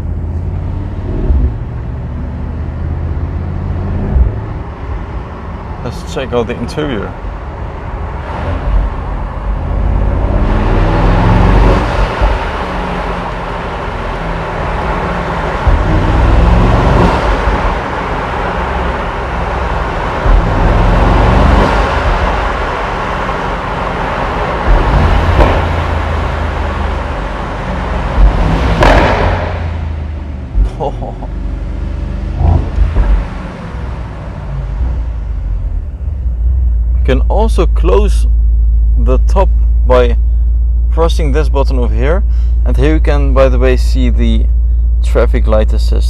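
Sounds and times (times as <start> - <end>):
loud deep car engine and exhaust: 0.0 - 46.0.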